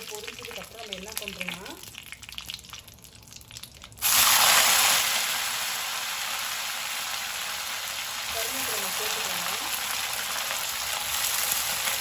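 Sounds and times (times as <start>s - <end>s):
vegetables sizzling in hot oil: 0.0s - 2.6s, 3.9s - 12.0s
faint crackling in pan: 0.0s - 12.0s.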